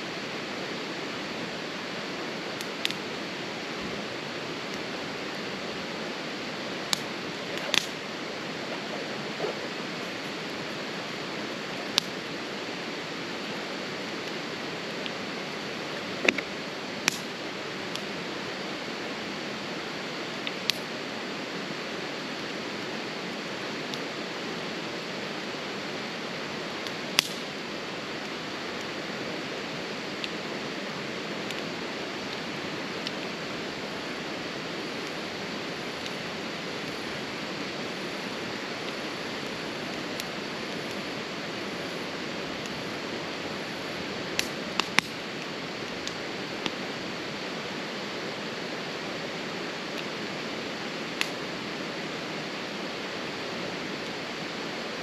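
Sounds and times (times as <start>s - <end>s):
steady rushing noise: 0.0s - 55.0s
campfire popping: 0.8s - 18.2s, 20.3s - 20.9s, 26.4s - 54.5s.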